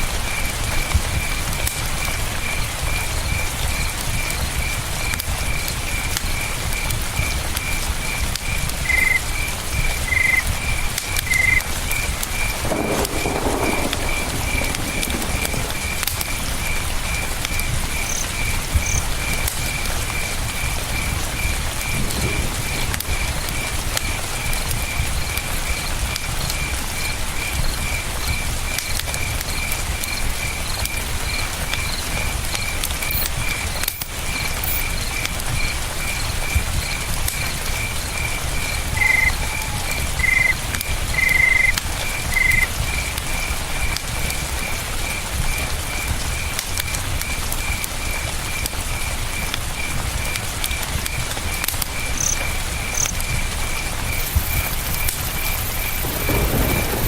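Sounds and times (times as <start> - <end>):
campfire crackling: 0.0 - 57.0
cricket chirping: 0.3 - 57.0.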